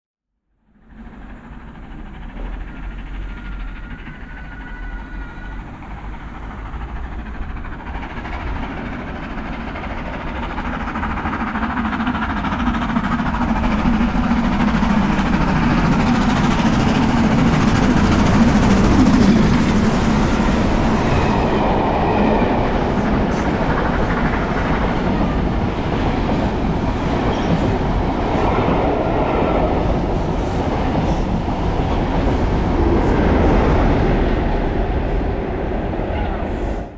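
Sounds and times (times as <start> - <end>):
steam locomotive running through: 0.6 - 36.9.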